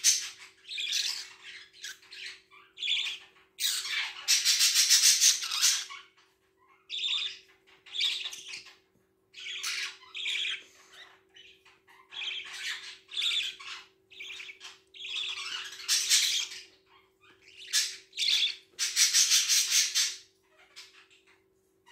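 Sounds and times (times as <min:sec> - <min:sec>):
budgerigars squawking: 0:00.0 - 0:06.2, 0:09.4 - 0:21.2.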